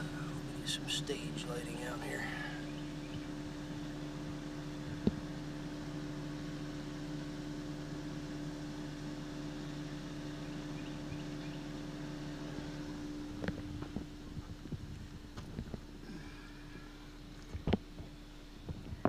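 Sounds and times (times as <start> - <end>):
low machinery hum: 0.0 - 19.0.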